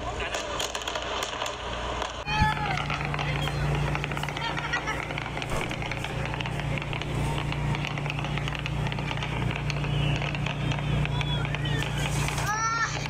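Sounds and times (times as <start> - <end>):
fireworks popping and crackling: 0.0 - 13.0
low rumble: 1.0 - 13.0.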